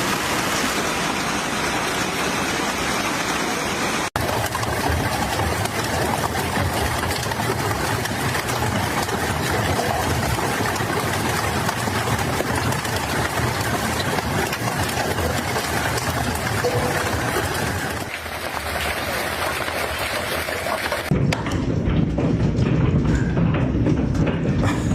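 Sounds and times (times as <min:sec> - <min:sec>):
hail clattering: 0:04.1 - 0:24.9.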